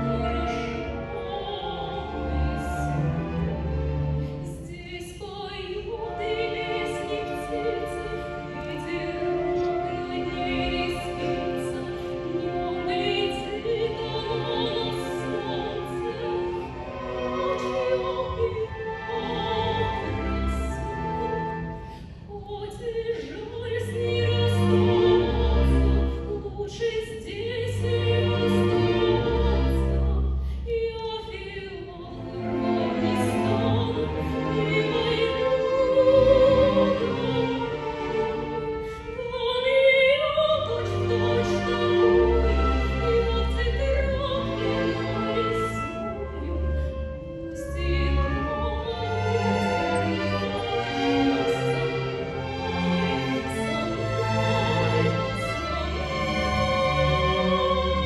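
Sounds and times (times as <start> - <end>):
symphony orchestra: 0.0 - 58.0.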